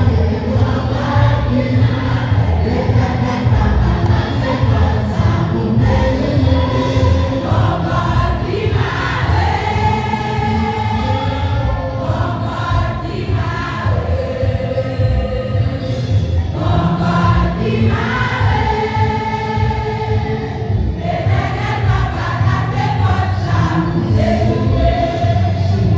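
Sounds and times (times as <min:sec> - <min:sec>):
choir singing a hymn: 0:00.0 - 0:25.9
instrumental accompaniment with bass: 0:00.0 - 0:25.9.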